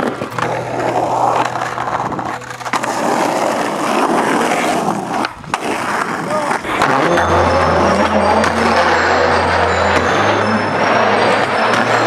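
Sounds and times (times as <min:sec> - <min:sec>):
skateboard wheels rolling on paving: 0:00.0 - 0:12.0.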